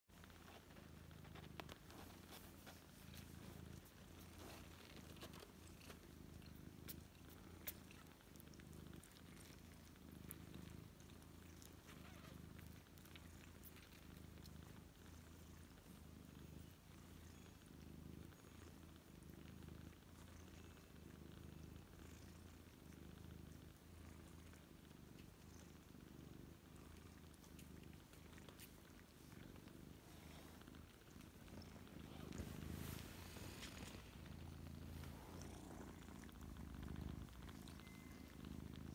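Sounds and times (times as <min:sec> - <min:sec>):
cat purring: 0:00.1 - 0:38.9.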